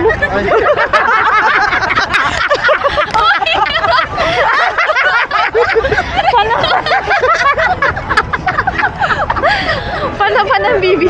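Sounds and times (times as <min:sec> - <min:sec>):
crowd chatter: 0:00.0 - 0:11.0
people laughing and giggling: 0:00.0 - 0:11.0.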